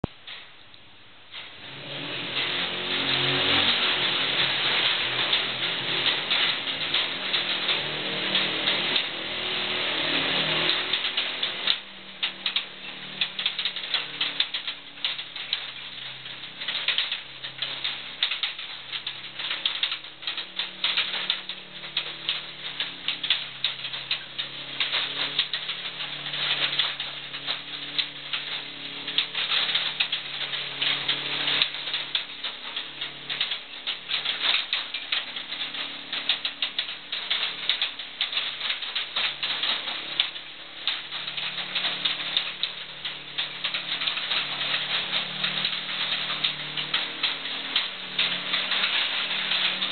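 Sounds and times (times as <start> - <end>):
vehicle rattling over rough floor: 1.3 - 49.9.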